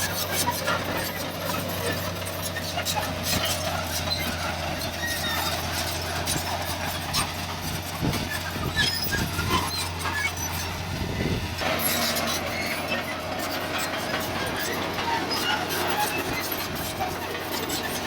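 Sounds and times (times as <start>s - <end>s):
crawler tracks clanking: 0.0s - 18.0s
diesel engine running under load: 0.0s - 18.0s.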